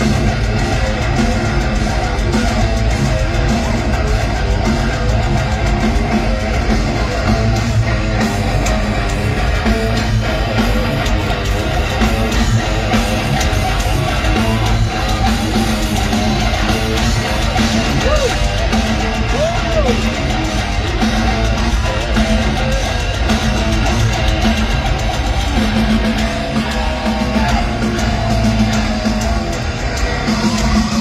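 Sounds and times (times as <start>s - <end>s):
electric guitar: 0.0s - 31.0s
loud heavy metal music: 0.0s - 31.0s.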